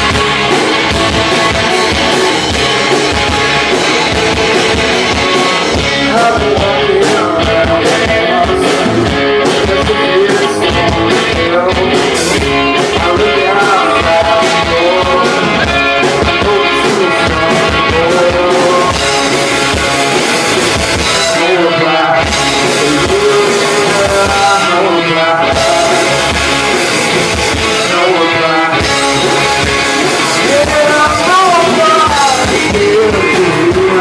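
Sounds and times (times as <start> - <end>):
rock song with singing: 0.0 - 34.0.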